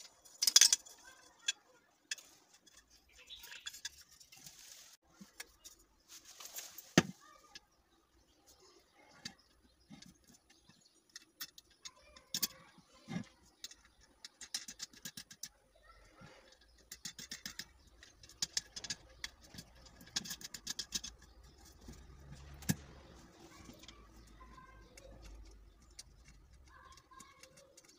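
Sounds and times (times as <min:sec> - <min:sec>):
small metal parts clicking: 0:00.0 - 0:04.8, 0:09.2 - 0:27.9.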